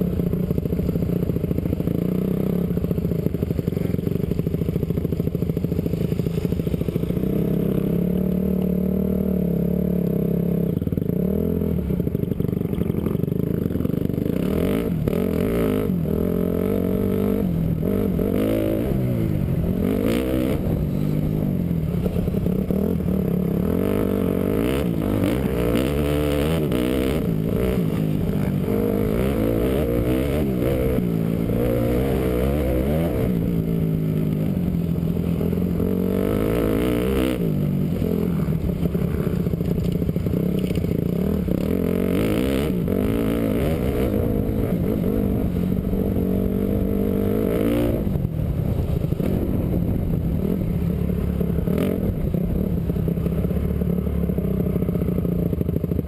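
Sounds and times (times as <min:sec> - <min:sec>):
motocross bike engine revving: 0:00.0 - 0:48.2.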